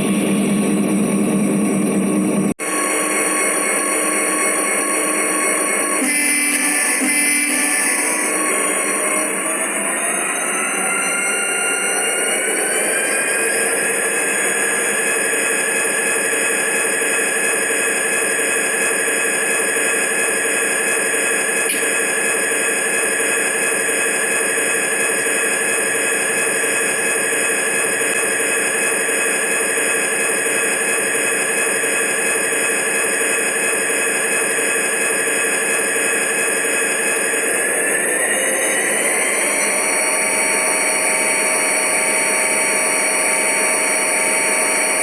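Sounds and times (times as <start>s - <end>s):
model train hum and whine: 0.0s - 45.0s.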